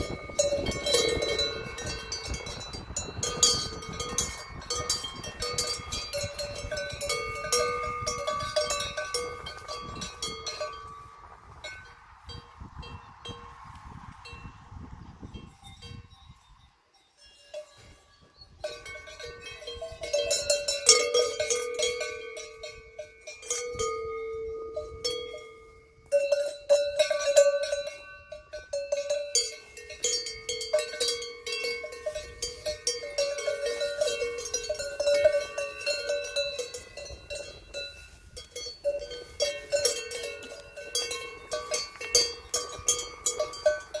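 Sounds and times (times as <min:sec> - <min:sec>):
cowbells clanking: 0:00.0 - 0:13.5, 0:15.3 - 0:44.0.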